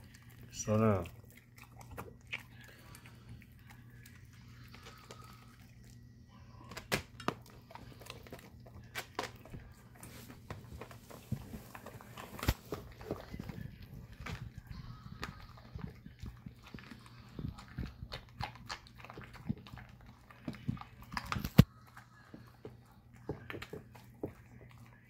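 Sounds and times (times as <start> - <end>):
puppy chewing raw food: 0.0 - 25.0.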